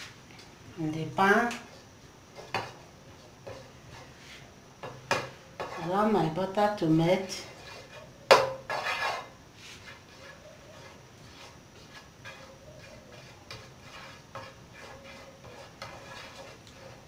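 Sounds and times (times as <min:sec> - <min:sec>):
spatula scraping frying pan: 0:01.6 - 0:17.0.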